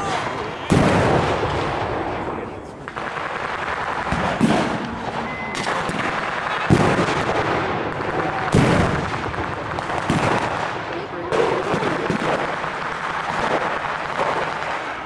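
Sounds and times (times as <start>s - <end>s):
blank gunshots echoing: 0.0s - 15.0s.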